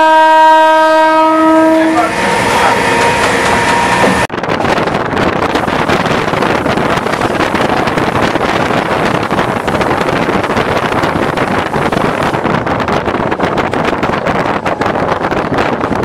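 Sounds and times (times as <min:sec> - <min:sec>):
train rushing noise: 0:00.8 - 0:16.0
wind buffeting microphone: 0:02.2 - 0:16.0.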